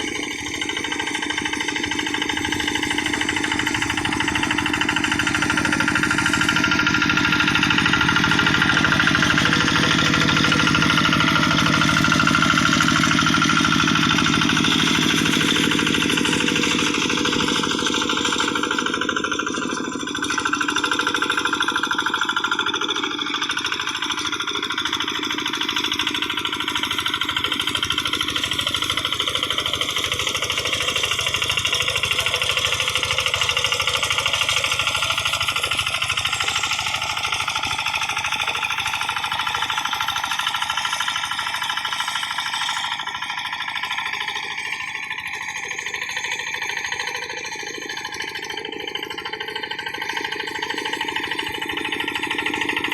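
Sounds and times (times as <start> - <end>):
diesel engine knocking: 0.0 - 52.9.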